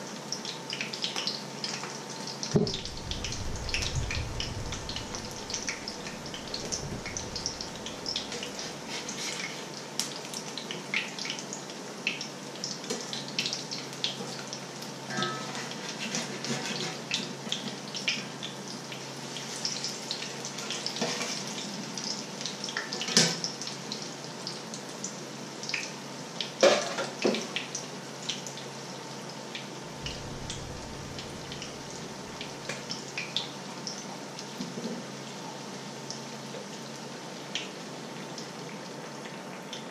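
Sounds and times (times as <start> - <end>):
patties sizzling in hot oil: 0.0 - 39.9.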